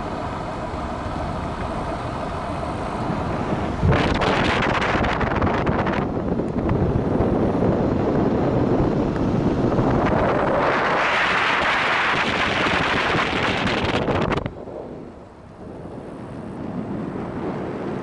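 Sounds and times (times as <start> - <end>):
steady noise: 0.0 - 18.0
wind blowing over microphone: 0.0 - 18.0.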